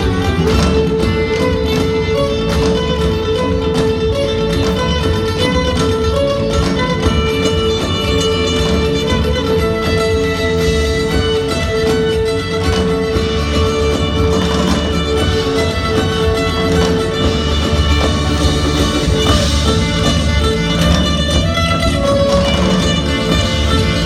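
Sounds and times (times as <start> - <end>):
bass: 0.0 - 24.0
drums: 0.0 - 24.0
guitar: 0.0 - 24.0
plucked strings: 0.0 - 24.0.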